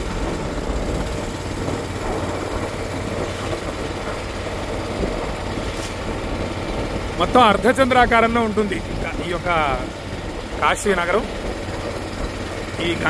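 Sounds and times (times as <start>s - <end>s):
constant rushing noise: 0.0s - 13.0s
motorboat engine running: 0.0s - 13.0s.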